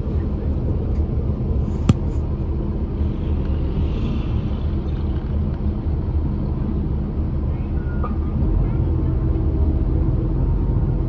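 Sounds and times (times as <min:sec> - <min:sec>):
bus engine low rumble: 0:00.0 - 0:11.0.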